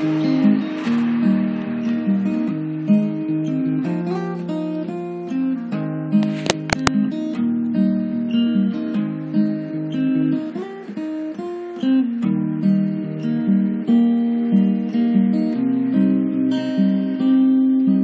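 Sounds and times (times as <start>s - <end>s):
acoustic guitar plucked melody: 0.0s - 18.0s.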